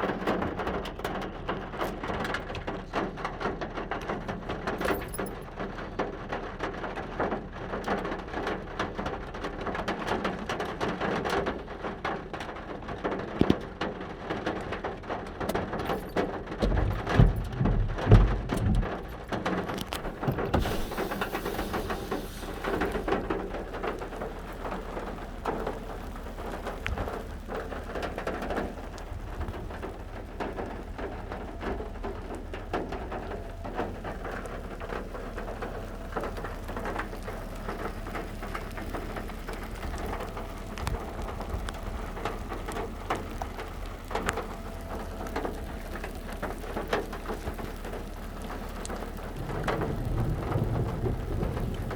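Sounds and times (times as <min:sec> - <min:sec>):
rain falling on a surface: 0:00.0 - 0:51.9.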